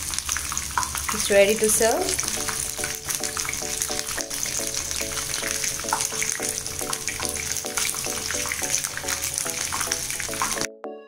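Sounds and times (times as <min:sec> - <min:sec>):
food deep-frying in oil: 0:00.0 - 0:10.7
background music: 0:01.8 - 0:11.0.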